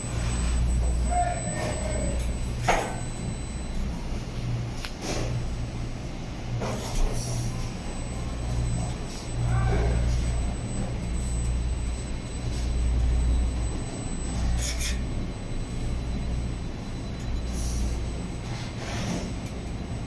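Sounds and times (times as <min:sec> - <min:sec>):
elevator machine rumble and hum: 0:00.0 - 0:20.0.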